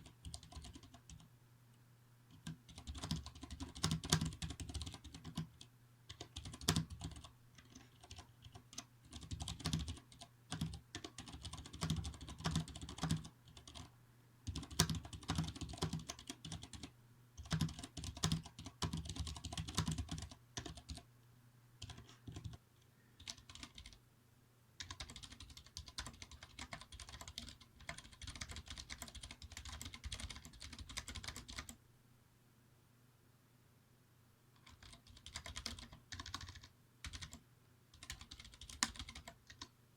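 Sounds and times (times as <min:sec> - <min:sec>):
mechanical keyboard typing: 0:00.0 - 0:01.3, 0:02.3 - 0:21.0, 0:21.8 - 0:22.6, 0:23.2 - 0:24.0, 0:24.8 - 0:31.8, 0:34.6 - 0:39.7.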